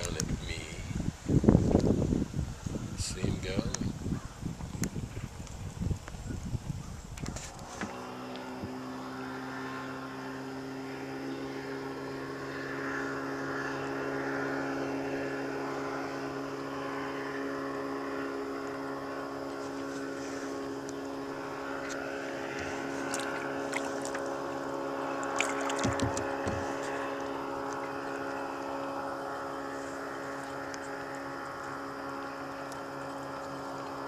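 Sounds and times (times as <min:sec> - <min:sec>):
motorboat engine drone: 0:00.0 - 0:34.0.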